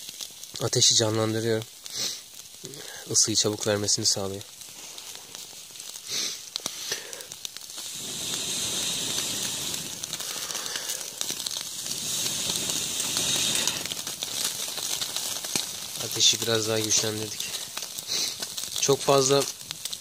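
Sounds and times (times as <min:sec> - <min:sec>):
wood fire crackling: 0:00.0 - 0:20.0
person blowing on embers: 0:01.7 - 0:03.1, 0:04.5 - 0:20.0.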